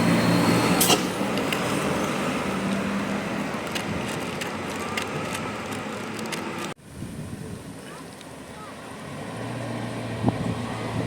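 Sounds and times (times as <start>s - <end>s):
vehicle passing: 0.0s - 6.7s, 8.7s - 11.0s.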